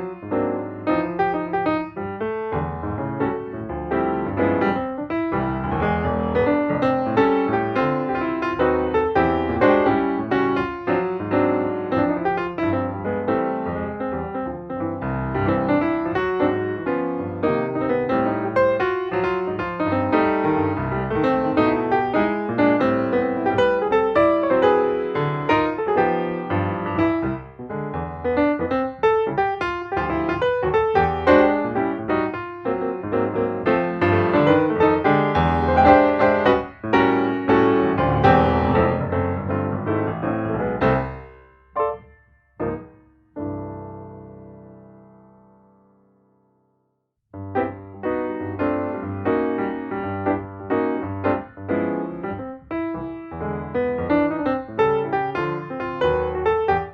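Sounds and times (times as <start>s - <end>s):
piano music: 0.0s - 46.8s, 47.4s - 56.9s.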